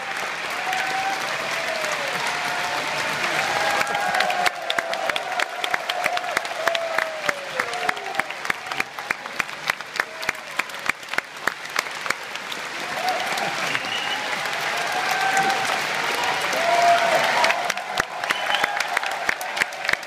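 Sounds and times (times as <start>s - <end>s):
audience applauding: 0.0s - 20.0s
loud sharp claps close by: 0.0s - 20.0s.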